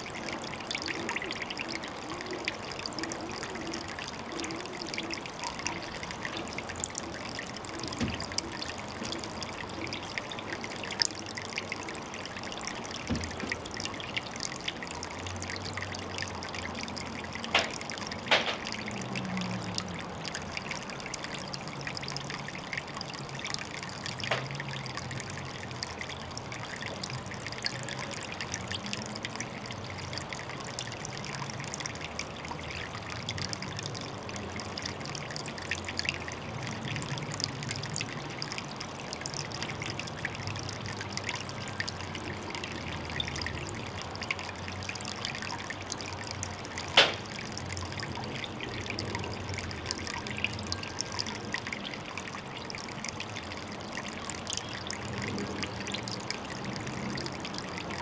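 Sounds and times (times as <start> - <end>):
water trickling into pond: 0.0 - 58.0.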